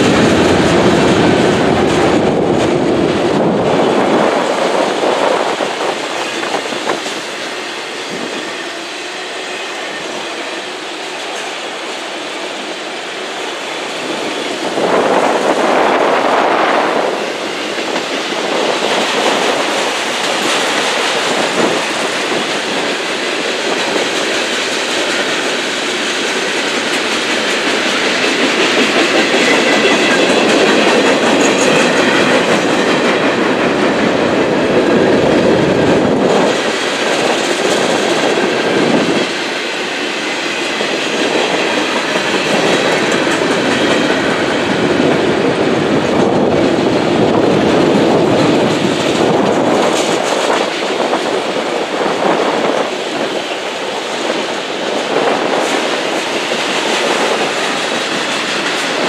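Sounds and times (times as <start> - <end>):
steel wheels rumbling on rail: 0.0 - 59.0
wheels clacking over rail joints: 0.0 - 59.0.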